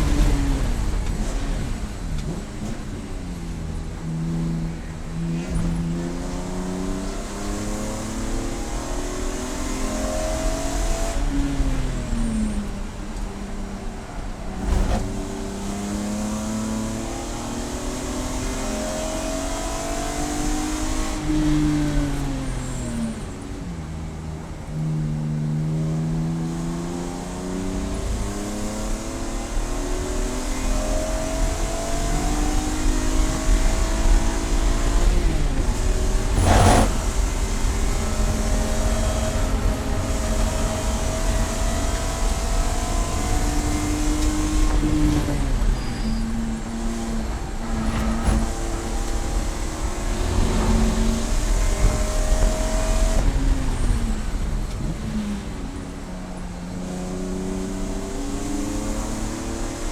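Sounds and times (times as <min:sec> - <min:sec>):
race car engine shifting gears: 0:00.0 - 0:59.9.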